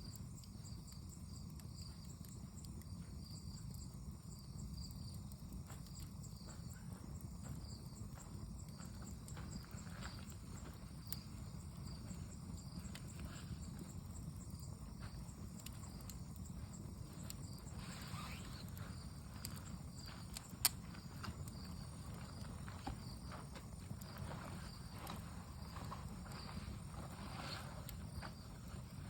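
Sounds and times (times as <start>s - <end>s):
bonfire rumbling: 0.0s - 29.0s
insects chirping: 0.0s - 29.0s
wood crackling: 0.2s - 29.0s.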